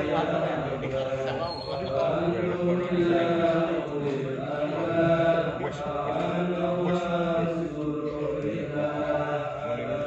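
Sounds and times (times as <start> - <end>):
men chanting prayers: 0.0 - 10.0.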